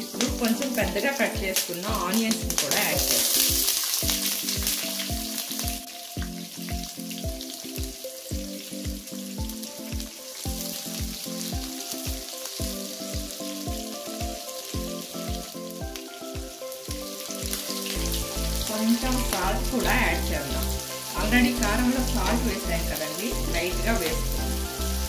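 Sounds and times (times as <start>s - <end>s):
onions sizzling in hot oil: 0.0s - 25.0s
background music with bass beat: 3.5s - 18.7s, 19.5s - 25.0s.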